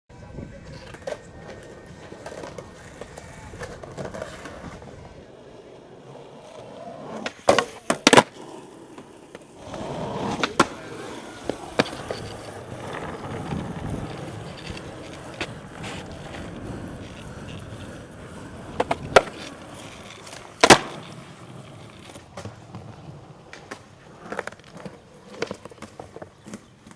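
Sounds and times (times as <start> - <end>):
skateboard wheels rolling on concrete: 0.1 - 26.9
skateboard clacking: 0.4 - 26.9.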